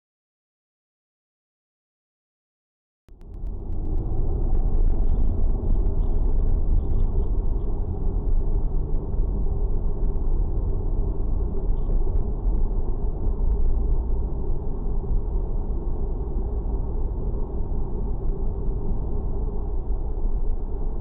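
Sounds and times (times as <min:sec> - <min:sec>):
low rumble: 0:03.1 - 0:21.0.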